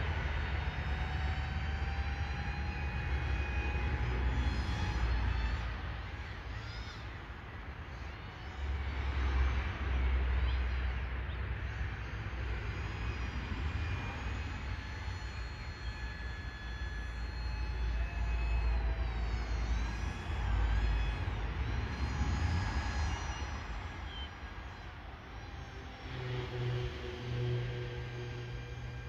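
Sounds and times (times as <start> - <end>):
model aircraft motor whining: 0.0 - 29.0.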